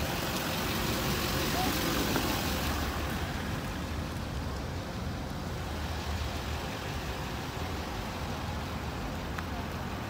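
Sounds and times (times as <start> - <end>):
road traffic hiss: 0.0 - 10.0.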